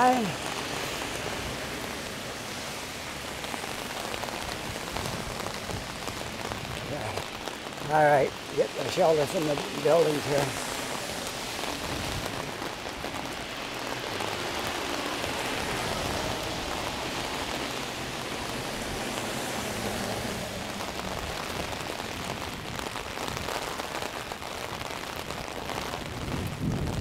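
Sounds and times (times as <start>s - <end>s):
heavy rain on an umbrella: 0.0s - 27.0s.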